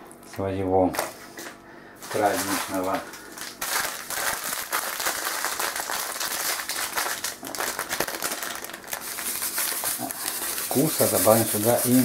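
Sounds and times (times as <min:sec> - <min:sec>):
plastic packet crinkling: 0:02.0 - 0:12.0.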